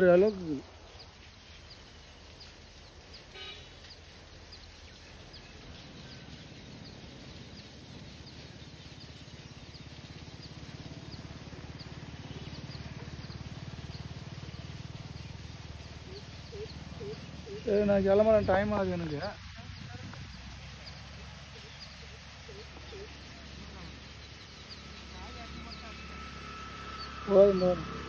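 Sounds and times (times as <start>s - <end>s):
bird chirping: 0.0s - 28.0s
low steady rumble: 0.0s - 28.0s.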